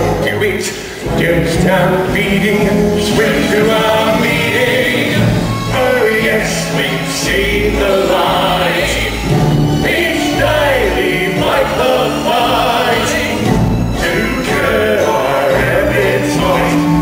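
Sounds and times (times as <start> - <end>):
band accompaniment: 0.0 - 17.0
ensemble singing in chorus: 0.0 - 17.0.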